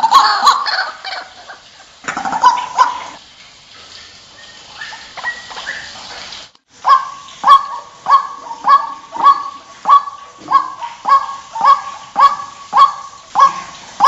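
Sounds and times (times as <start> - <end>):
waterhen calling: 0.0 - 14.0.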